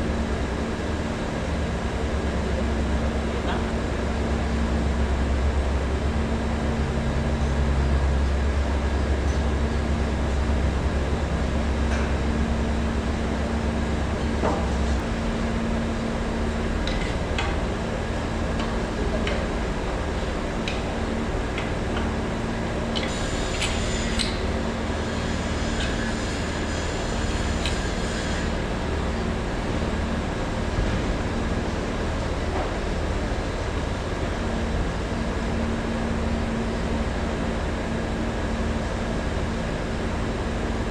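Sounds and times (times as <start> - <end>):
machinery drone: 0.0 - 40.9.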